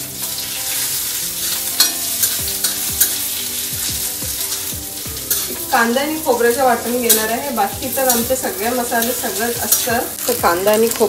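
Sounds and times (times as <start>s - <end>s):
onion sizzling in oil: 0.0s - 11.0s
spatula scraping and knocking pan: 0.2s - 11.0s.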